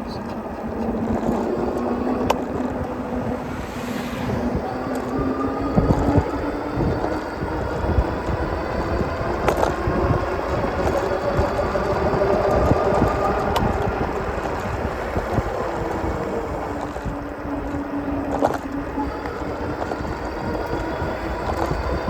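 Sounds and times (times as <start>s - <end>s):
wind buffeting microphone: 0.0s - 22.0s
electric bike motor whining: 0.9s - 22.0s.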